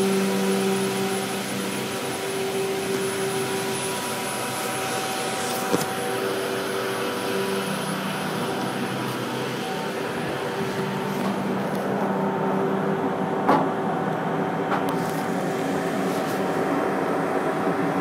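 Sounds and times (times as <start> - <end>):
machinery hum with steady tones: 0.0 - 18.0.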